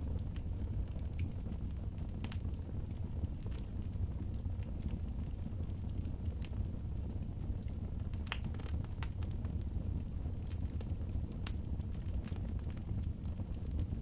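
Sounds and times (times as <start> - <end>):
fire low rumble: 0.0 - 14.0
wood fire crackling: 0.0 - 14.0.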